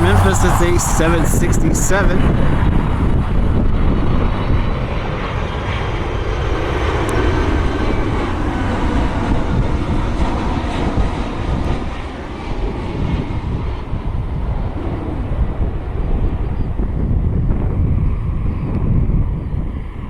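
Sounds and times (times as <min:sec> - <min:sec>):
jet engines roaring: 0:00.0 - 0:18.6.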